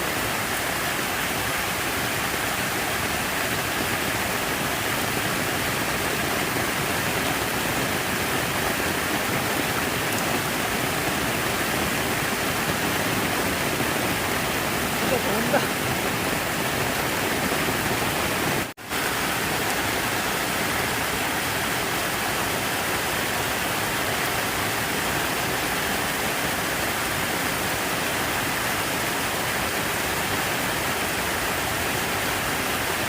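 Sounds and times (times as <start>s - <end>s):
falling splashing water: 0.0s - 33.0s.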